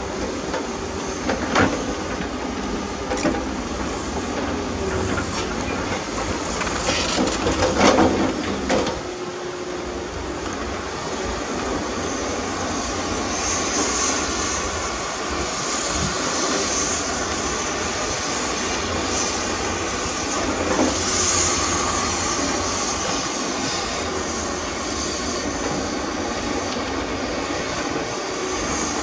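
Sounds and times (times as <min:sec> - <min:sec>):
heavy earthmoving machinery running: 0:00.0 - 0:29.0.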